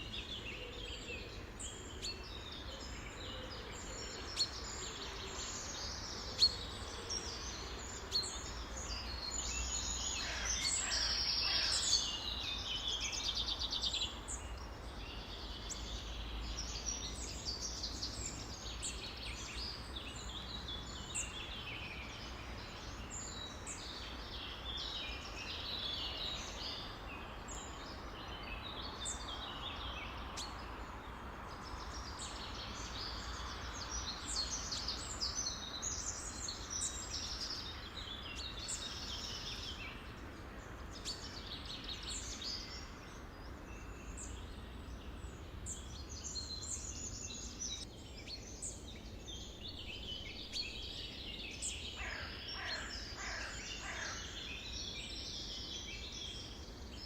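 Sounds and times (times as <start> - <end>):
low background noise: 0.0 - 57.0
songbirds chirping and trilling: 0.0 - 57.0.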